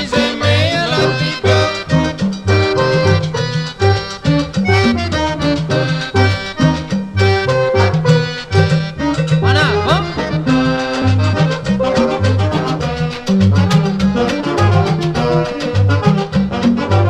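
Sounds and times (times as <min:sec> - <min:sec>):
dance band with saxophones: 0:00.0 - 0:17.0.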